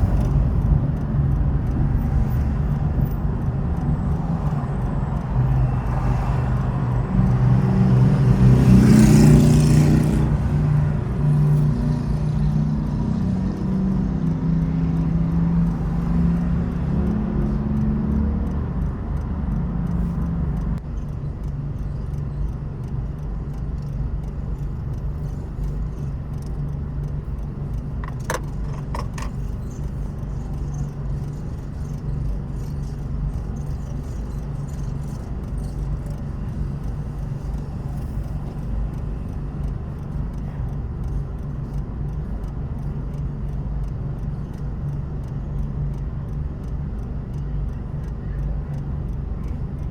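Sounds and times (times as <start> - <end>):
car engine hum: 0.0 - 49.9
road rumble: 0.0 - 49.9.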